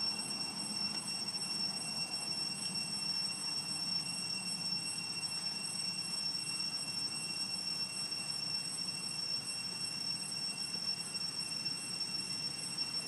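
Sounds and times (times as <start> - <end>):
constant high thin tones: 0.0 - 13.0.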